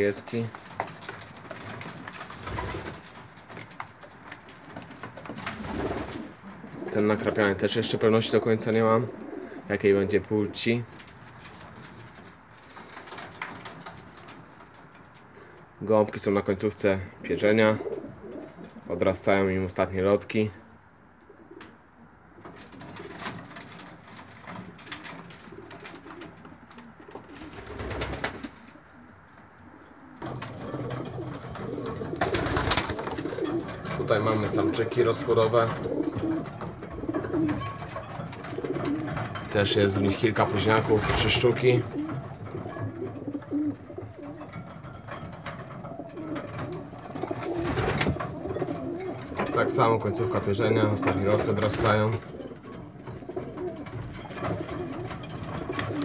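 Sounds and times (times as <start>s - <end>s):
pigeons cooing: 0.0s - 15.8s, 17.4s - 18.9s, 20.6s - 56.0s.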